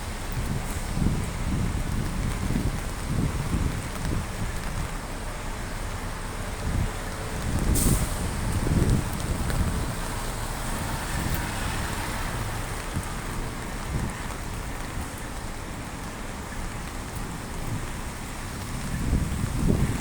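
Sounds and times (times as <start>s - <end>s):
heavy rain falling: 0.0s - 20.0s
low rumble of city traffic: 0.0s - 20.0s.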